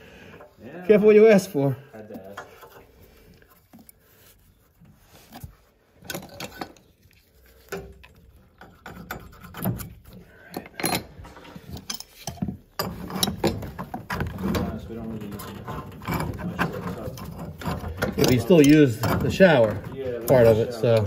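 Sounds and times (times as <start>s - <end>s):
clicks and taps handling metal: 2.0s - 21.0s.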